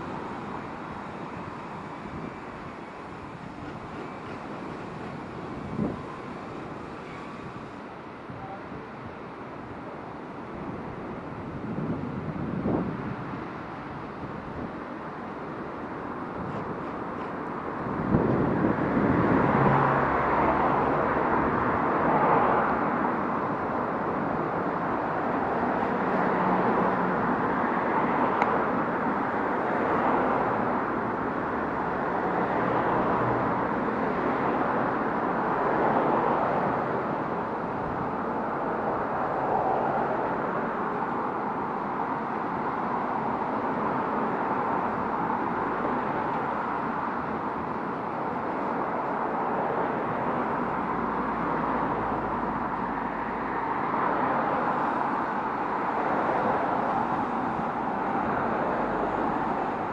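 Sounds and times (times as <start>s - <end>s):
cars passing: 0.0s - 9.4s, 10.2s - 59.9s
steady traffic rush: 0.0s - 59.9s.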